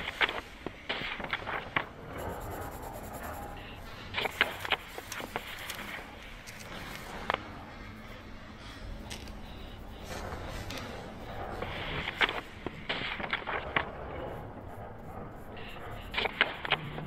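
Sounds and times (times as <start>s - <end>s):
pencil scratching on paper: 1.5s - 17.0s.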